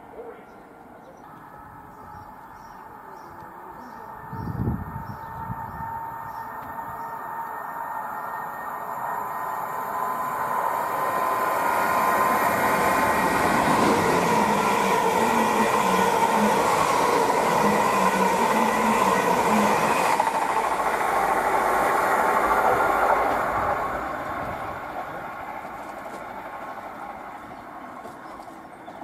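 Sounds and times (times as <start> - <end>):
train wheels rushing on rail: 1.3 - 29.0.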